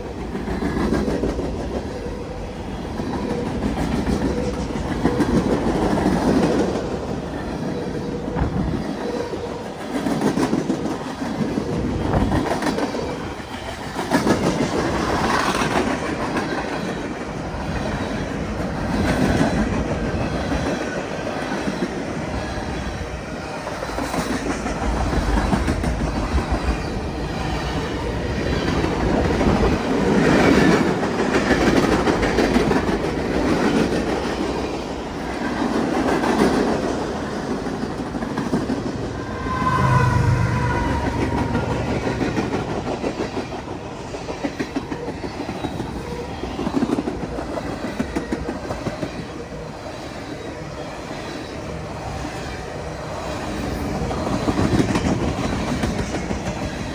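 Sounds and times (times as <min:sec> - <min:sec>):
freight train cars rolling: 0:00.0 - 0:56.9.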